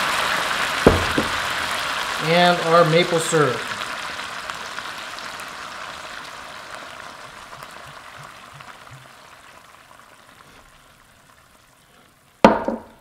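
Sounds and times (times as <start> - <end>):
bacon sizzling in a skillet: 0.0 - 12.5.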